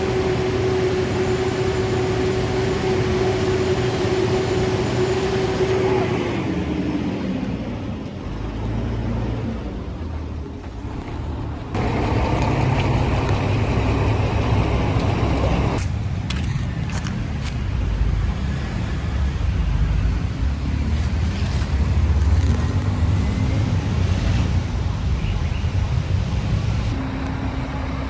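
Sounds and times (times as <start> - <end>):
vehicle road rumble: 0.0 - 28.0.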